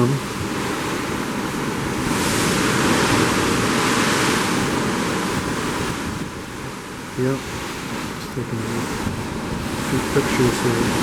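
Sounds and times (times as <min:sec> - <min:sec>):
ocean waves rushing: 0:00.0 - 0:11.0
wind buffeting microphone: 0:00.0 - 0:11.0.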